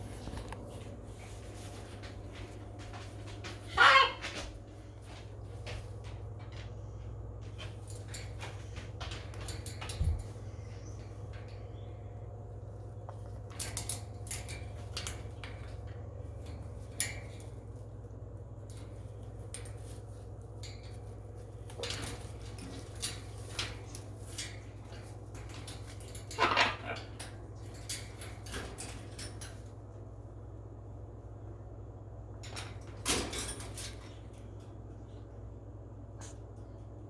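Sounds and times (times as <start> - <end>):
light clicks and clinks of metal: 4.3 - 37.0.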